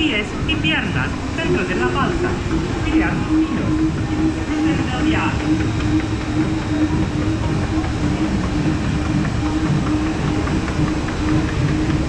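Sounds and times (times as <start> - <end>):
constant machinery hum: 0.0 - 12.0.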